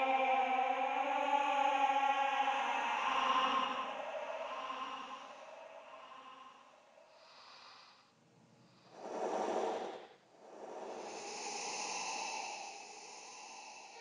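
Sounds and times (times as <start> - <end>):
eerie breathing: 0.0 - 14.0.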